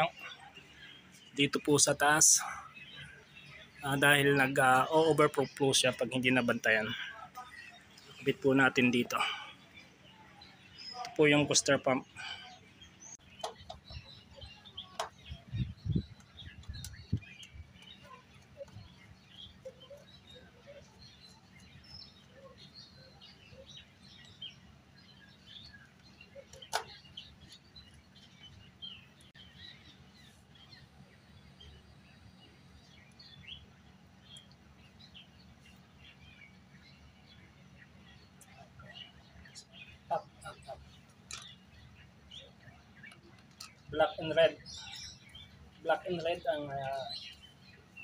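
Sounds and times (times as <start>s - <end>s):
bird chirps: 0.0s - 48.0s
steady low hum: 0.0s - 48.0s.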